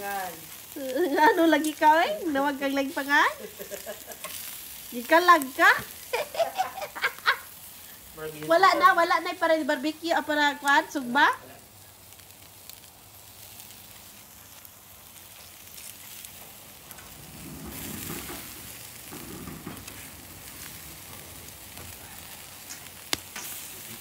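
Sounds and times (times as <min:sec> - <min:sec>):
pork sizzling on a grill: 0:00.0 - 0:24.0.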